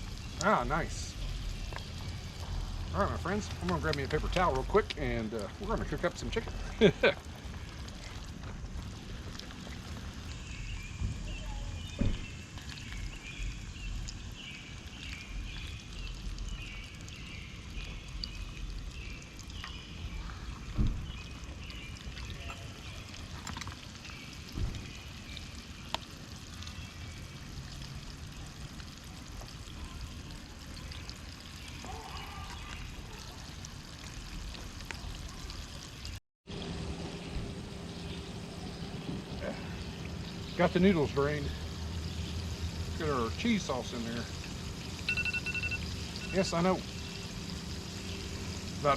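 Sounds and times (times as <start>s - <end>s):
chicken frying in oil: 0.0s - 48.9s
oil popping: 0.0s - 48.9s.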